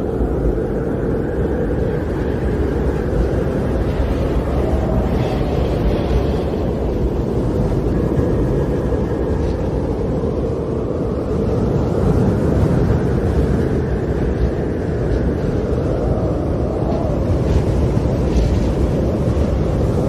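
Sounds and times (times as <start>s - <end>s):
storm wind blowing hard: 0.0s - 20.0s.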